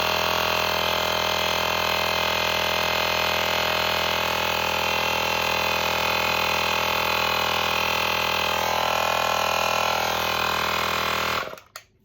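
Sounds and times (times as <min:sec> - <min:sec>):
electric air pump running: 0:00.0 - 0:11.8.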